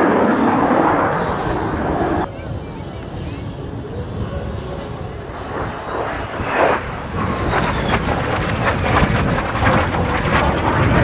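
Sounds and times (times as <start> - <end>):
jet engine roaring with crackle: 0.0 - 11.0.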